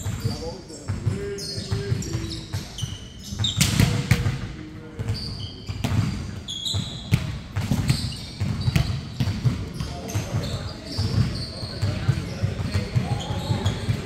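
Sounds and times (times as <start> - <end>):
sneakers squeaking on court: 0.0 - 14.0.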